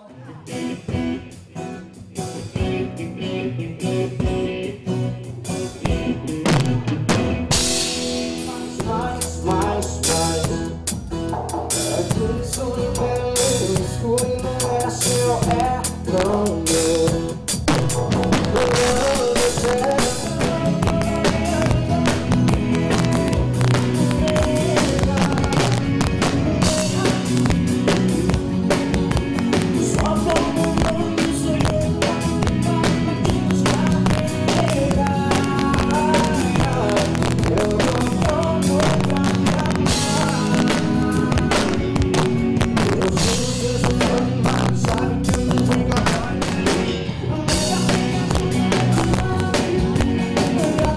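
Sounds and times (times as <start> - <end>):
live band playing: 0.0 - 50.9
drum kit beat: 0.1 - 50.9.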